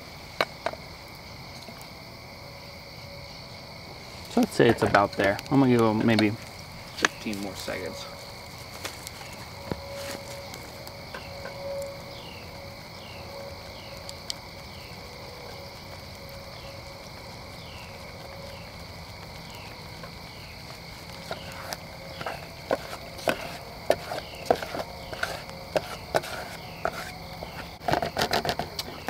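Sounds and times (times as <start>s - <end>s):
insects chirping: 0.0s - 29.0s.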